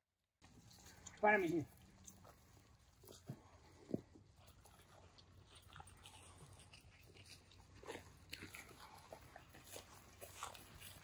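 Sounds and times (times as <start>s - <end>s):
footsteps crunching through dry grass: 0.4s - 11.0s.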